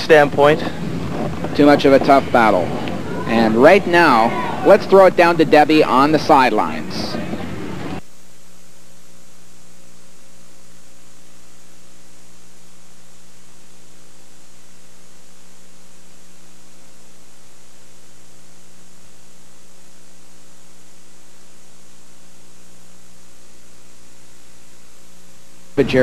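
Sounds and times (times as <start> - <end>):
mains hum: 0.0 - 26.0
tape hiss: 0.0 - 26.0.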